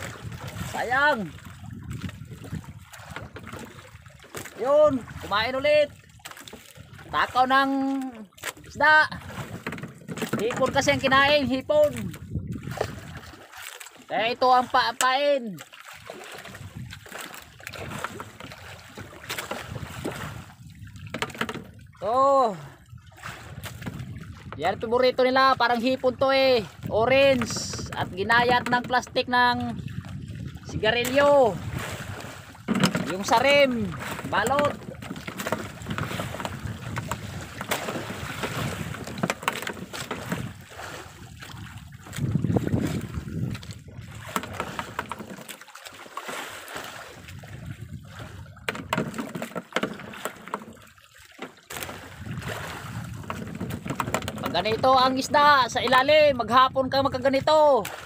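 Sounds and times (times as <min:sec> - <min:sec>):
wind buffeting microphone: 0:00.0 - 0:06.2, 0:08.6 - 0:13.4, 0:16.4 - 0:45.3, 0:46.9 - 0:49.0, 0:51.8 - 0:58.0
water sloshing against boat hull: 0:00.0 - 0:58.0.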